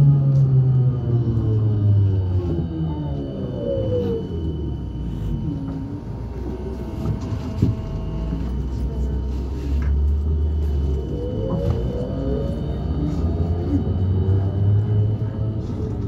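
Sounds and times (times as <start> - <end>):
low running rumble: 0.0 - 16.0
trolleybus electric drive whining: 0.0 - 16.0.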